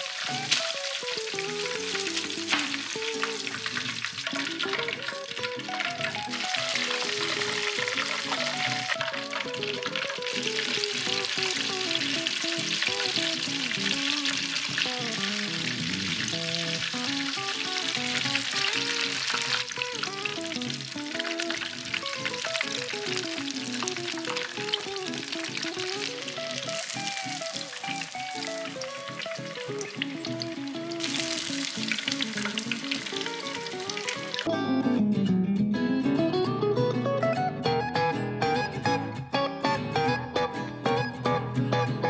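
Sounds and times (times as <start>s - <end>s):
chicken deep-frying in oil: 0.0s - 34.5s
background music: 0.0s - 42.0s.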